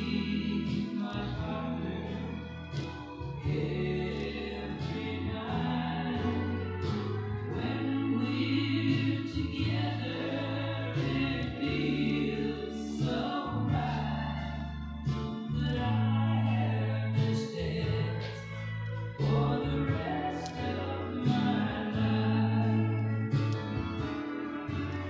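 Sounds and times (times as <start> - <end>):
held bass notes: 0.0 - 25.0
music with singing: 0.0 - 25.0.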